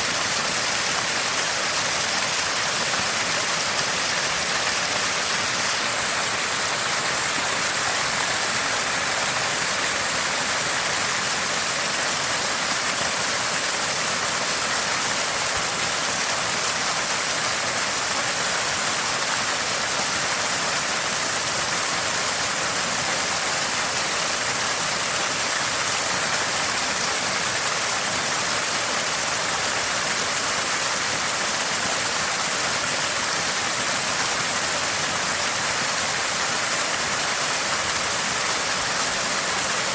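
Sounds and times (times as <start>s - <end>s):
spring water gushing and splashing: 0.0s - 39.9s.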